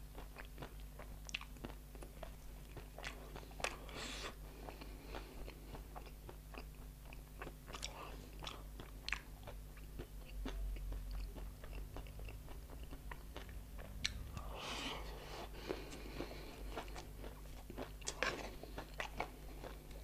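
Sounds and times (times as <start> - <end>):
crunchy chewing of snack: 0.1 - 20.0.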